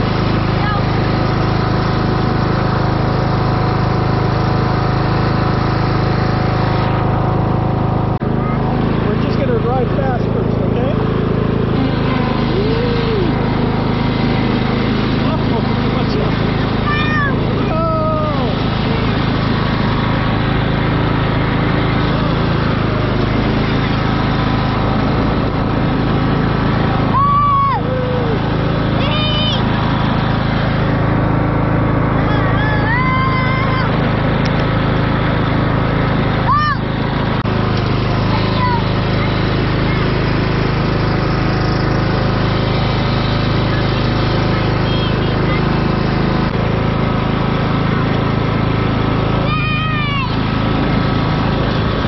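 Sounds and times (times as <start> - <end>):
riding lawn mower engine running: 0.0 - 52.0.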